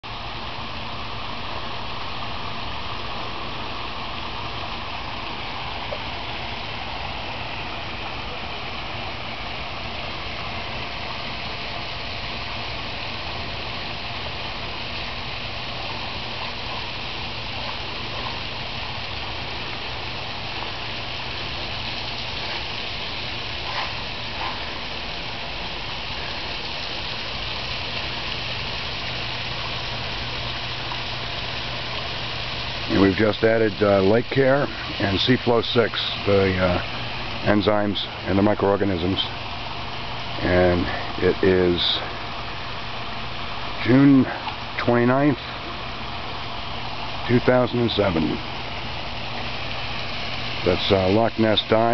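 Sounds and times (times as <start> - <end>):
constant low hum: 0.0 - 51.9.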